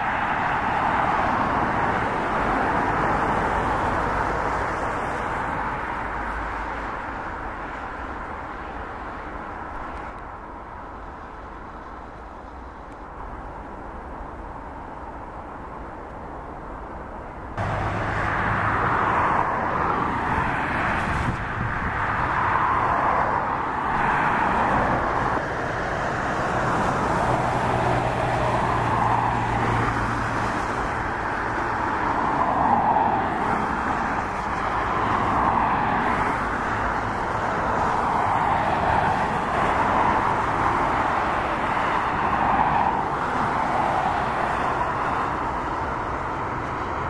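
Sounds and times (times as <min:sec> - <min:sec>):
aircraft engines rushing drone: 0:00.0 - 0:47.0.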